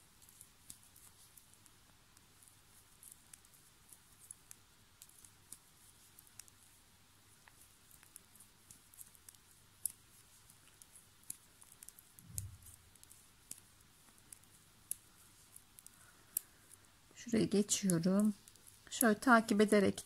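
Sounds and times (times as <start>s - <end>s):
knitting needles clicking: 0.2s - 20.0s.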